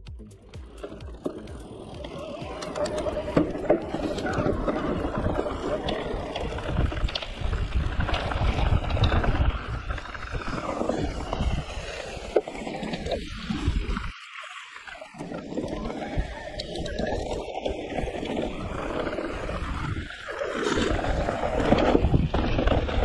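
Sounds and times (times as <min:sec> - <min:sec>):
bike tyre and frame rumble: 0:00.2 - 0:23.0
wind buffeting microphone: 0:01.9 - 0:14.1, 0:15.6 - 0:23.0.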